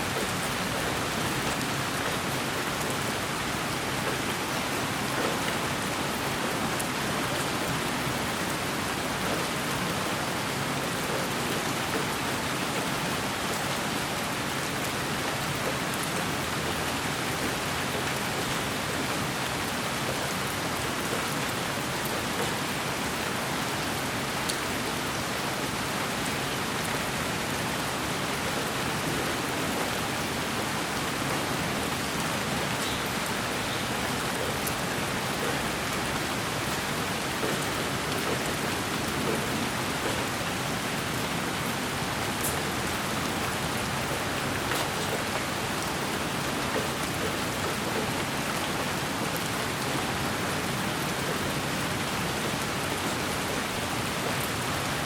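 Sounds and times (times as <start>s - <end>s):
rain-like white noise hiss: 0.0s - 55.0s.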